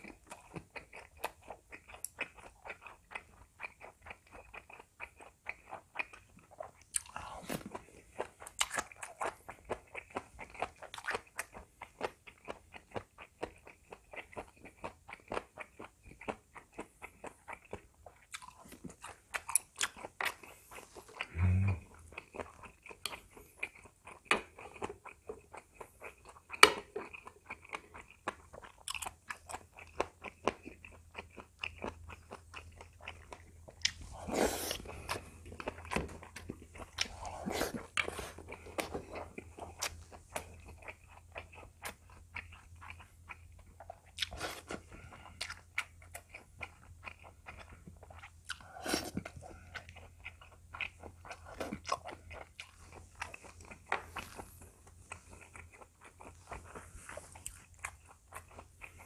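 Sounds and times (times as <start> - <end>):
chewing crunchy food: 0.0 - 59.0.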